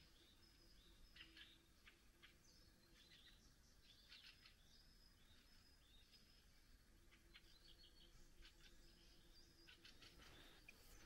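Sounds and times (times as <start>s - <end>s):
small birds chirping and trilling: 0.0s - 11.0s.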